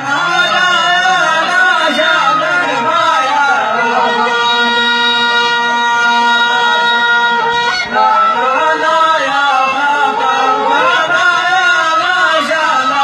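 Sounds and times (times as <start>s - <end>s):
men chanting sung poetry: 0.0s - 13.0s.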